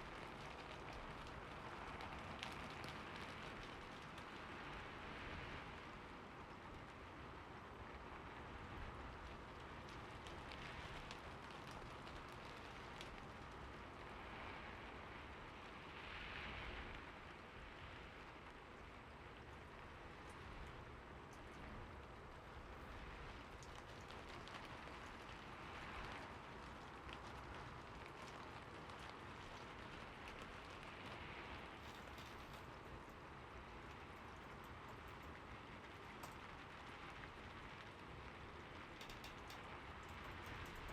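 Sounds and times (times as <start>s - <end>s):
raindrops ticking: 0.0s - 5.2s, 8.9s - 14.2s, 18.4s - 40.9s
steady rain falling: 0.0s - 40.9s.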